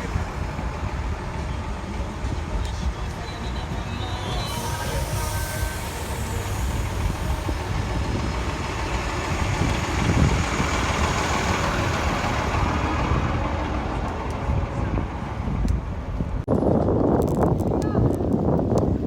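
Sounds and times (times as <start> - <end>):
road and vehicle noise: 0.0 - 19.0
wind rumble on microphone: 0.0 - 19.0.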